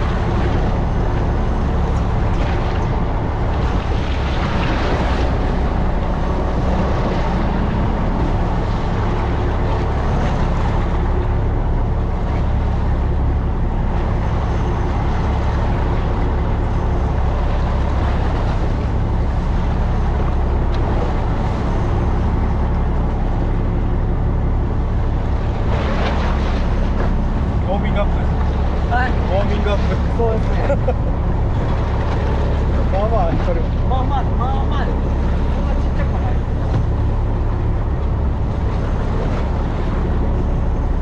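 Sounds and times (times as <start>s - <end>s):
boat engine droning: 0.0s - 41.0s
rushing water noise: 0.0s - 41.0s.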